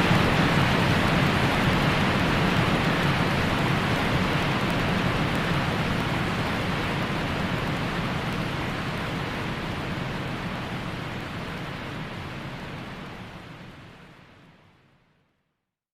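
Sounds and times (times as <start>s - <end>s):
white noise hiss: 0.0s - 15.4s.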